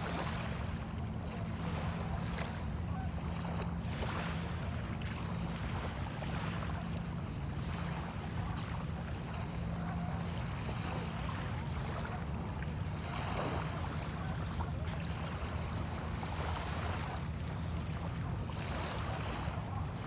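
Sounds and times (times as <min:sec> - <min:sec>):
small waves washing in: 0:00.0 - 0:20.0
wind: 0:00.0 - 0:20.0.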